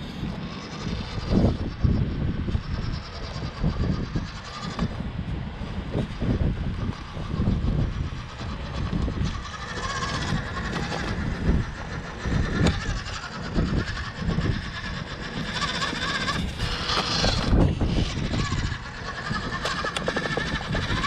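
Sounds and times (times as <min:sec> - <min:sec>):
low rumbles: 0:00.0 - 0:21.0
small electric motor whining: 0:00.0 - 0:21.0.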